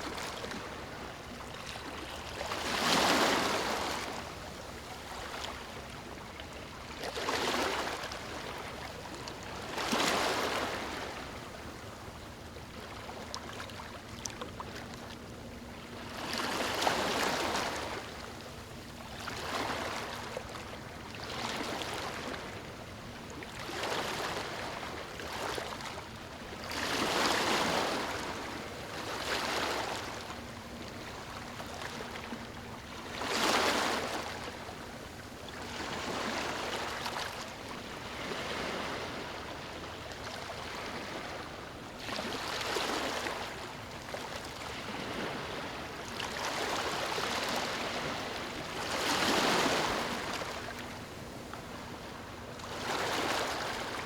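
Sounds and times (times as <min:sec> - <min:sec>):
waves lapping on a beach: 0:00.0 - 0:54.0.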